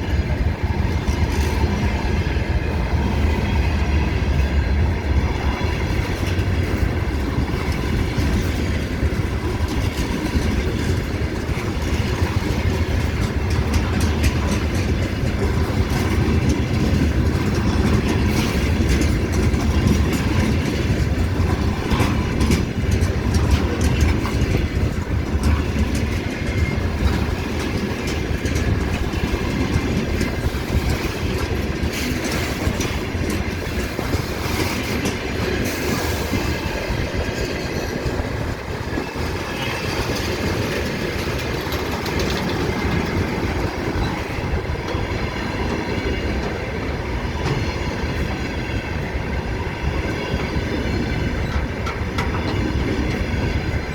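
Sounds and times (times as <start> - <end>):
train wheels clattering on rails: 0.0 - 53.9.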